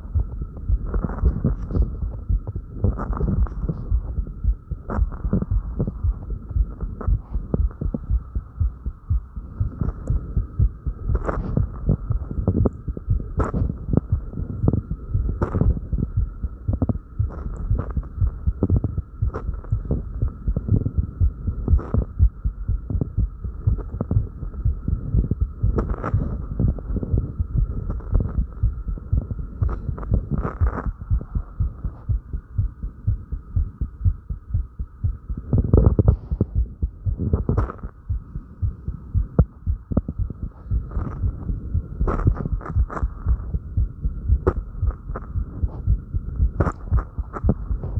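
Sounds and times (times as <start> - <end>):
fast heartbeat thumps: 0.0 - 47.9
steady hum: 0.0 - 47.9.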